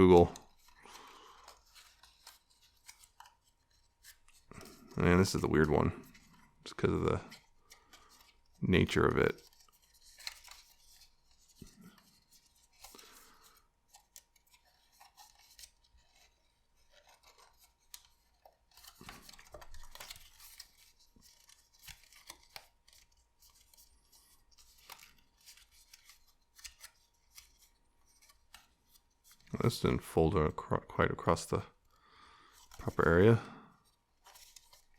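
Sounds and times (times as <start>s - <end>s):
paper crinkling: 0.0s - 30.4s, 31.0s - 34.9s.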